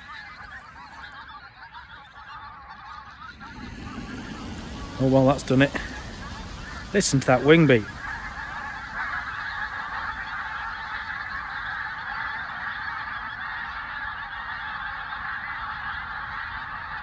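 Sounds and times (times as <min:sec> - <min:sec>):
flock of geese calling: 0:00.0 - 0:17.0.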